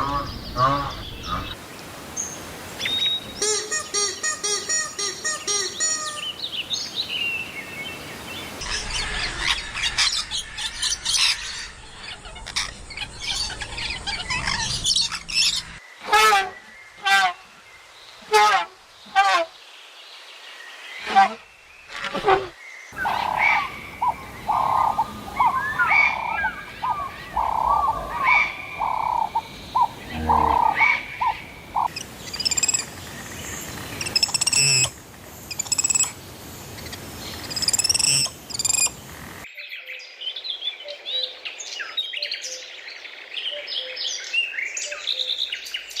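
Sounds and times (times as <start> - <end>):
birds calling and chirping: 0.0 - 17.9, 20.8 - 46.0.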